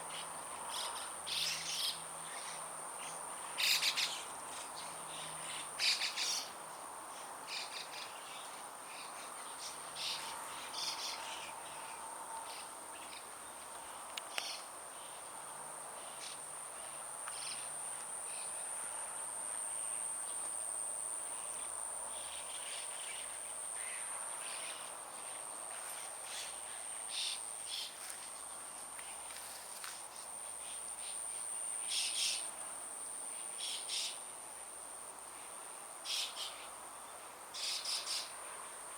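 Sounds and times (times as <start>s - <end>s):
songbirds chirping: 0.0s - 32.7s.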